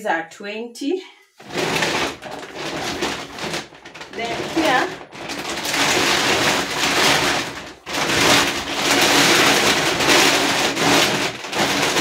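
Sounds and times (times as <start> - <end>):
plastic bags rustling: 1.4 - 12.0.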